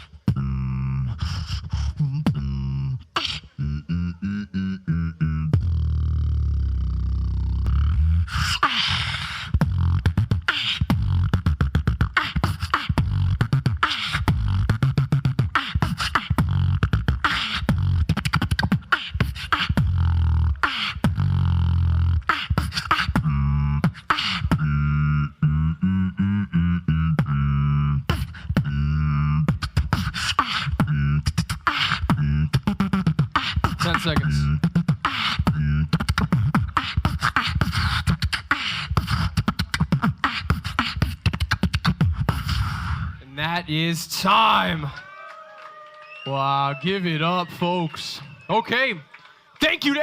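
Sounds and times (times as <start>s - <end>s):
vocal beatboxing: 0.0s - 45.0s.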